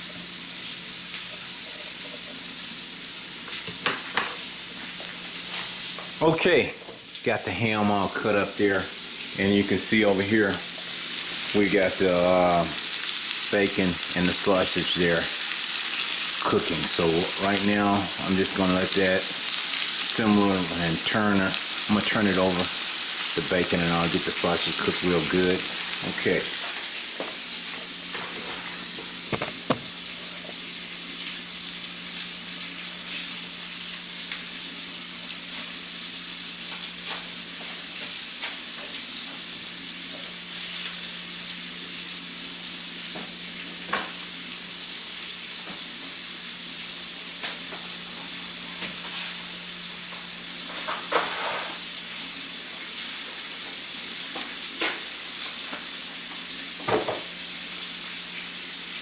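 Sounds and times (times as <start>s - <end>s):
fat sizzling in a skillet: 0.0s - 59.0s.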